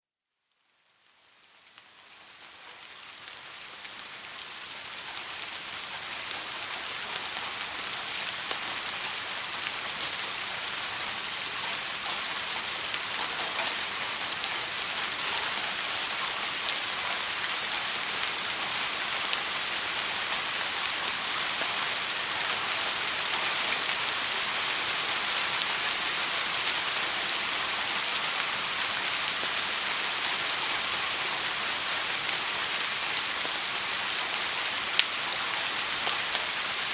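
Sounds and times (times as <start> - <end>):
rain pattering on surfaces: 0.5 - 36.9.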